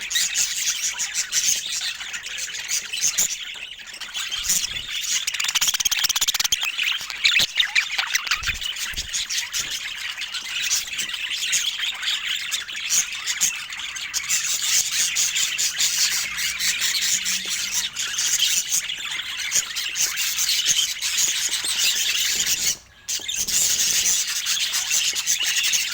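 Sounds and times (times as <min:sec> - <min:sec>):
budgerigar chatter: 0:00.2 - 0:25.9.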